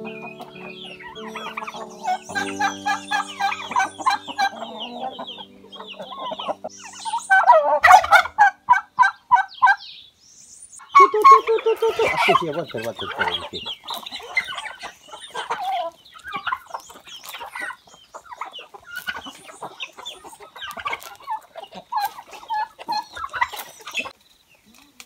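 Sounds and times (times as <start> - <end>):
chickens and turkeys clucking: 0.0 - 10.2, 10.8 - 25.0.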